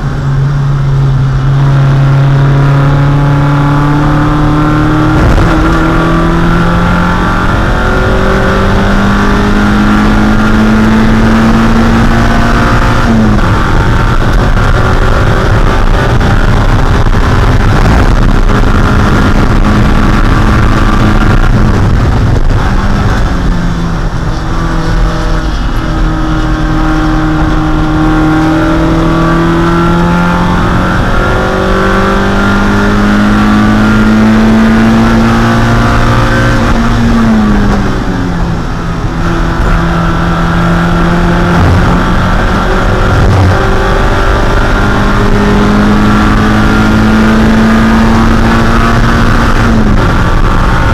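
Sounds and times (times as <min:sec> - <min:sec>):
race car engine running hard: 0:00.0 - 0:50.9.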